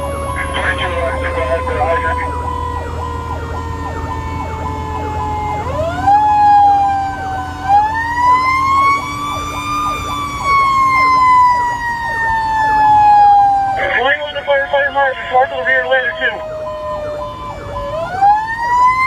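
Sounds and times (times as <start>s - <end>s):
faster cycling siren: 0.0s - 19.0s
fire engine siren wailing: 0.0s - 19.0s.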